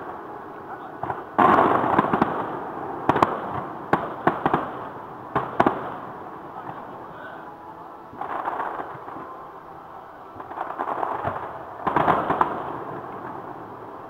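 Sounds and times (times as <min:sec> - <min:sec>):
fireworks bangs: 0:00.0 - 0:07.4, 0:08.1 - 0:09.4, 0:10.3 - 0:14.0
fireworks crackling: 0:00.0 - 0:14.0.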